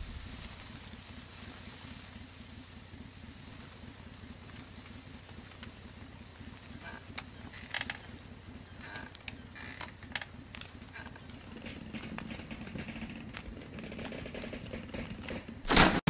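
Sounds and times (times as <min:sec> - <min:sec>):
fluttering low rumble: 0:00.0 - 0:15.6
short crackles: 0:00.0 - 0:16.0.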